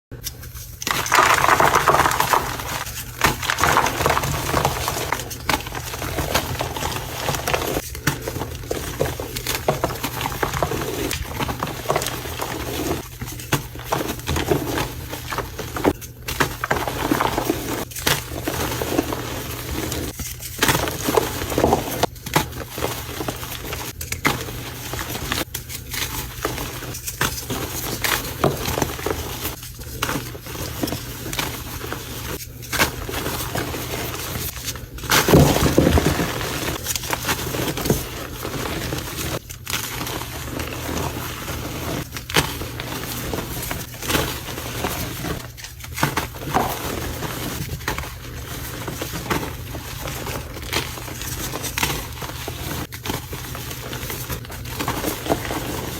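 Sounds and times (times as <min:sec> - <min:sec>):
concrete mixing crunch and scrape: 0:00.1 - 0:55.9.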